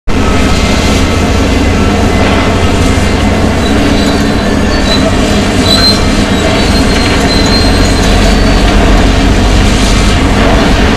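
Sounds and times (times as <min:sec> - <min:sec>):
heavy machinery rumbling: 0:00.1 - 0:10.9
high metallic squeals: 0:00.2 - 0:10.3.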